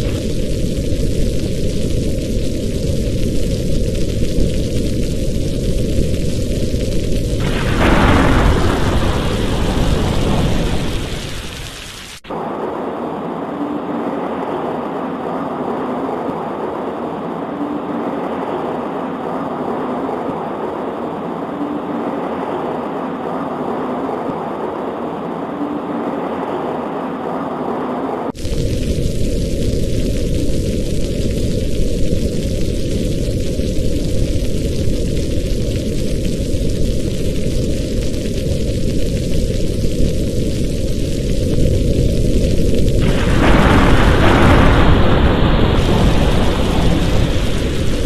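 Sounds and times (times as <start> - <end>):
steady rain: 0.0 - 48.0
thunder rumbling: 0.0 - 48.0.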